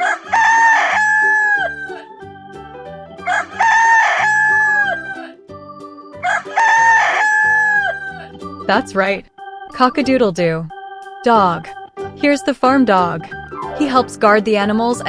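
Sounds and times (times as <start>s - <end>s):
keyboard background music: 0.0s - 15.0s.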